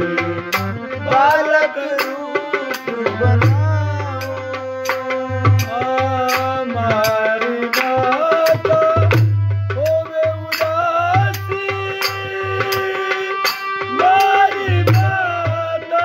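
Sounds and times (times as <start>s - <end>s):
held melody: 0.0s - 16.0s
hand drum beat: 2.0s - 13.0s, 13.9s - 16.0s.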